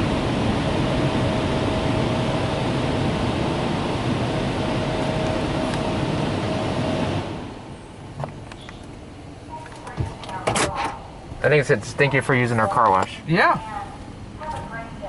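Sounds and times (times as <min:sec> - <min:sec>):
car wash dryer blowers: 0:00.0 - 0:15.0.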